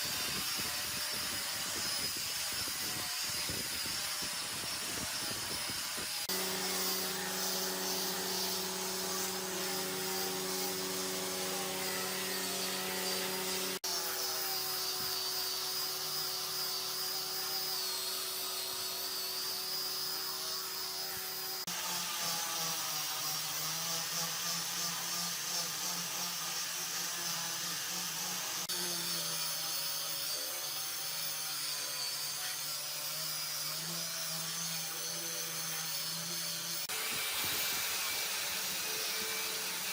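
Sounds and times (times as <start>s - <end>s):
electric power tool motor running: 0.0s - 39.9s.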